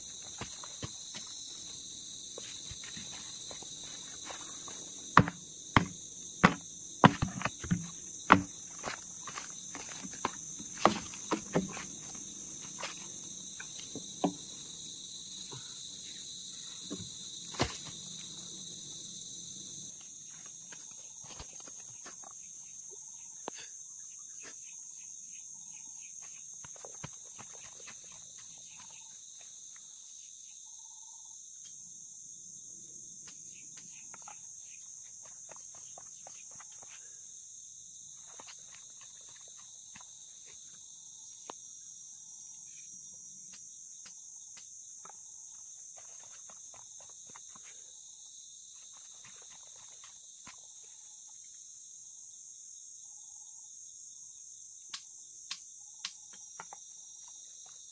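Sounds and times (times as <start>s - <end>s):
insect chorus: 0.0s - 57.9s.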